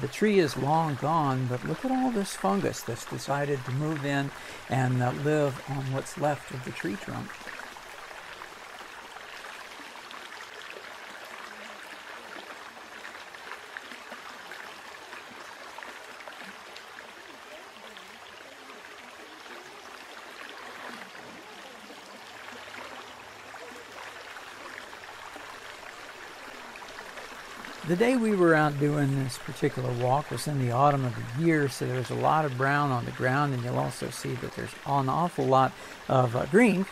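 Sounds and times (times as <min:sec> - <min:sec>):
stream of flowing water: 0:00.0 - 0:36.9.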